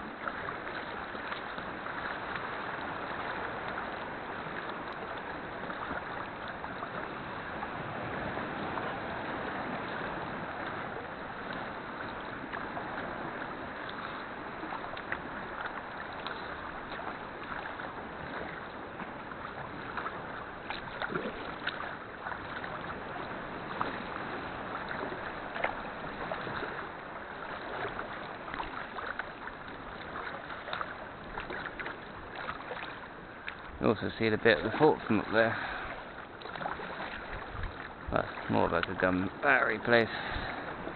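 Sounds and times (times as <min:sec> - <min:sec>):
water splashing around kayak: 0:00.0 - 0:40.9.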